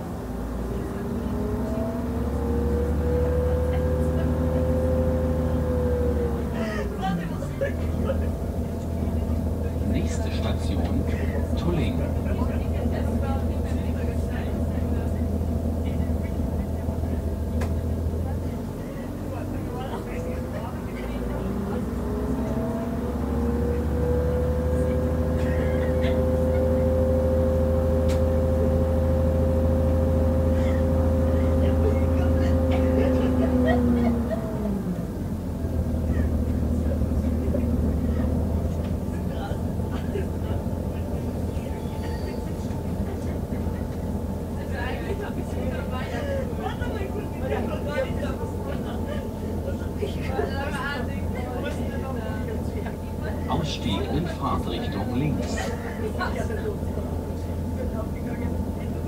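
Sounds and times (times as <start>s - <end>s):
railcar diesel engine drone: 0.0s - 59.0s.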